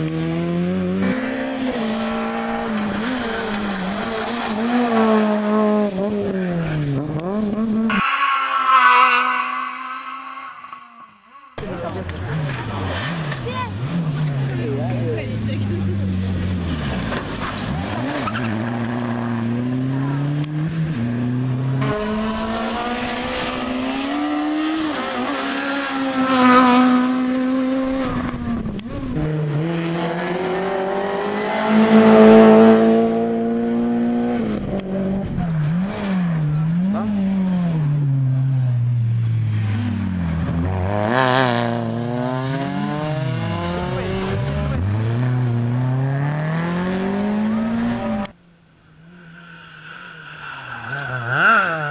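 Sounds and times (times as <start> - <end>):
rally car engines at full throttle: 0.0 - 51.9.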